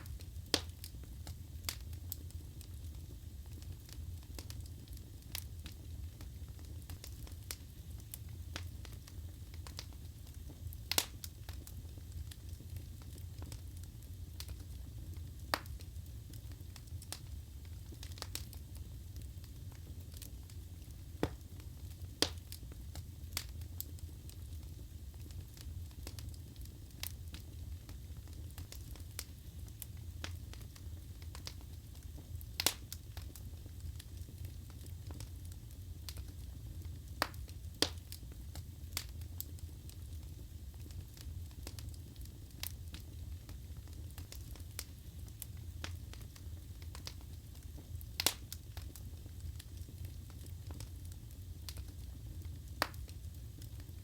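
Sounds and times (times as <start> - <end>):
low rumble of flame: 0.0 - 54.0
wood crackling and popping: 0.0 - 54.0.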